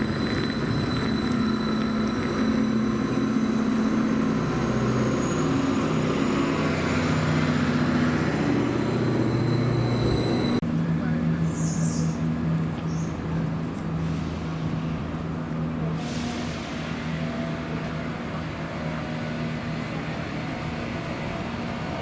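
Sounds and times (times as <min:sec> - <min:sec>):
steady train rumble: 0:00.0 - 0:22.0
train low hum: 0:00.0 - 0:22.0.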